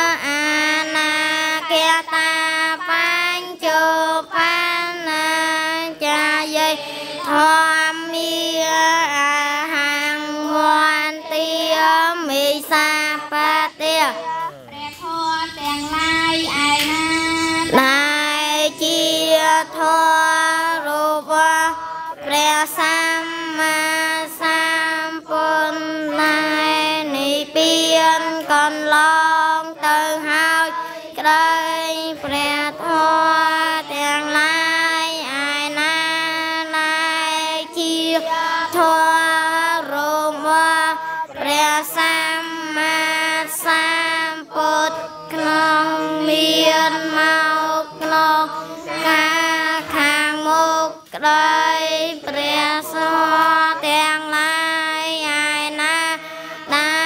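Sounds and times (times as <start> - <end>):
children chanting a prayer: 0.0 - 57.0.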